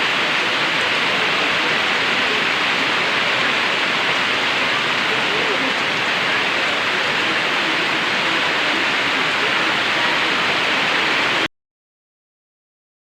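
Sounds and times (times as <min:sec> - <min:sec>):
heavy rain hissing: 0:00.0 - 0:11.5.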